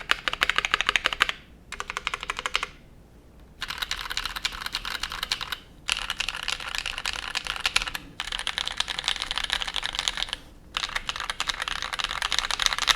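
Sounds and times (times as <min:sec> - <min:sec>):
mechanical keyboard typing: 0:00.0 - 0:02.8, 0:03.6 - 0:12.9.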